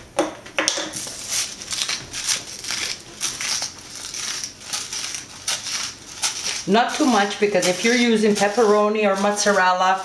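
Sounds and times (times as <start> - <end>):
salt grinder crunching: 1.0 - 10.0.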